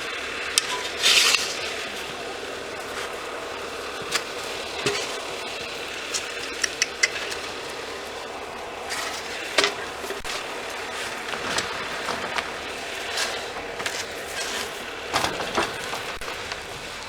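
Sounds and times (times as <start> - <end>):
machine engine running: 0.0 - 17.0
sharp clicks and clanks: 0.4 - 2.1, 4.0 - 17.0.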